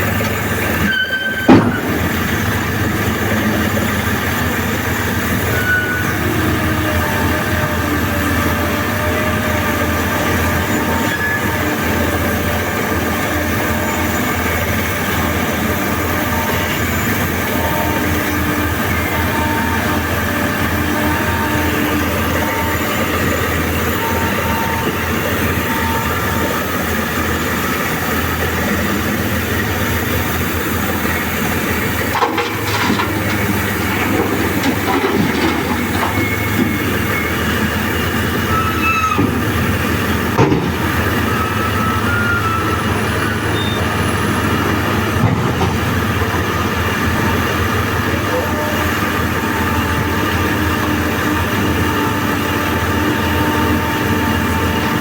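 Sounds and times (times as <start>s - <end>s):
deep diesel engine drone: 0.0s - 55.0s
hydraulic whine: 0.0s - 55.0s.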